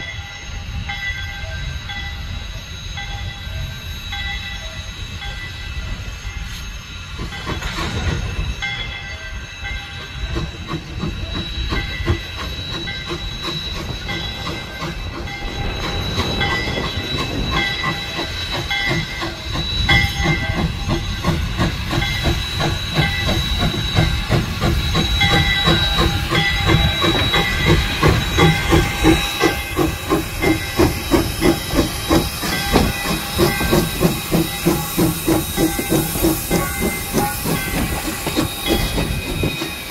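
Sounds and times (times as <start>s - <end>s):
steam hissing: 0.0s - 39.9s
steam locomotive exhaust chuffing: 0.2s - 39.9s.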